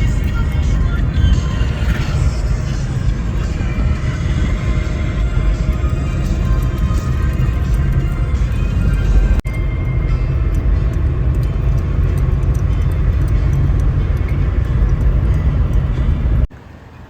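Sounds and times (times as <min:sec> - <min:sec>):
moving vehicle rumble: 0:00.0 - 0:17.0.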